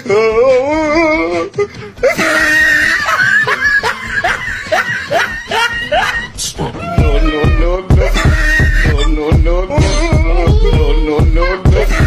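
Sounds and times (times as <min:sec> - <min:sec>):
person laughing and shrieking: 0:00.0 - 0:12.0.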